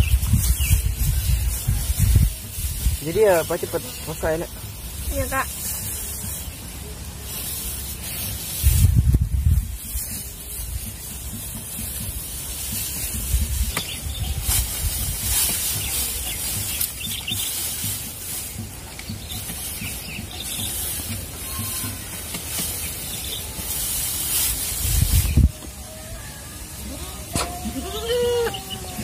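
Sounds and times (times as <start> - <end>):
dry straw rustling and crackling: 0.0 - 29.0.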